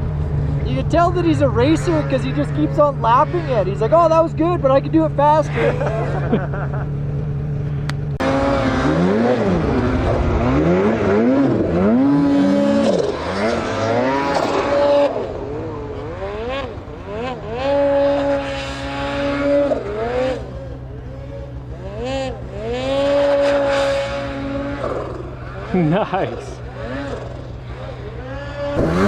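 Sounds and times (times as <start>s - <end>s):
snowmobile engine revving: 0.0s - 29.0s.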